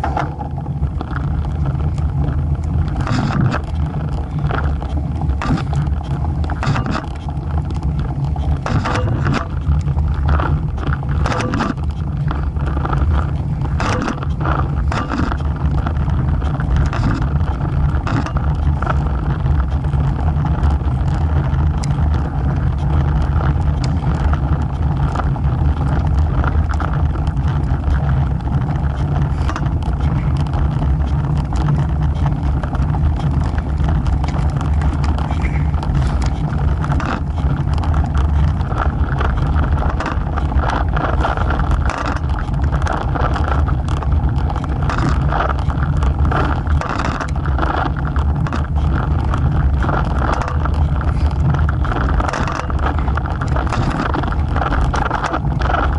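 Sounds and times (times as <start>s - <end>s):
bike tyre noise on asphalt: 0.0s - 55.9s
small clicks and knocks: 0.0s - 55.9s
wind rumble on microphone: 0.0s - 55.9s.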